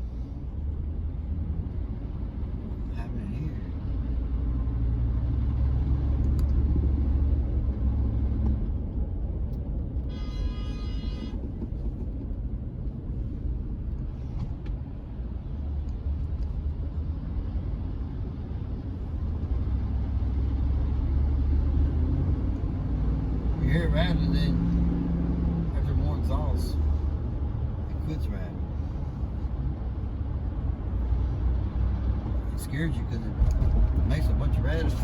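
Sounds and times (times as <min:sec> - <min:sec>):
truck engine and road rumble: 0:00.0 - 0:35.0.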